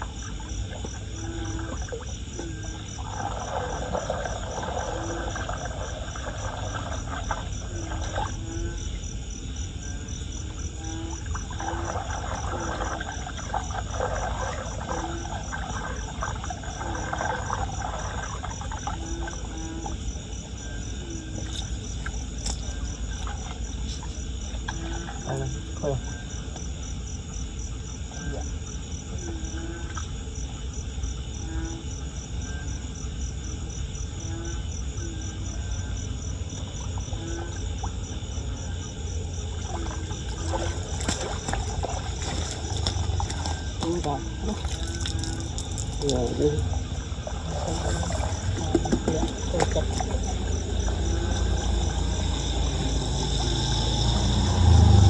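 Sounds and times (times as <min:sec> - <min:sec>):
crickets trilling: 0:00.0 - 0:55.0
frogs calling: 0:00.0 - 0:55.0.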